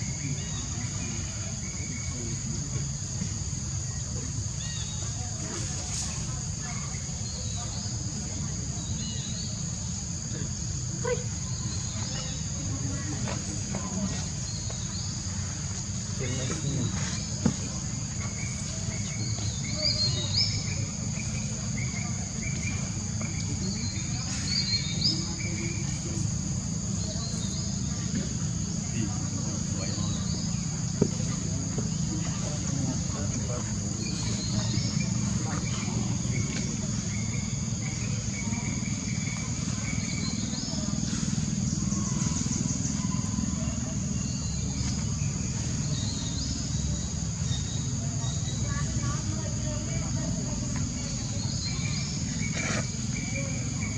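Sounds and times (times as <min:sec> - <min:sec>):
birds chirping: 0:00.0 - 0:53.9
high insect drone: 0:00.0 - 0:53.9.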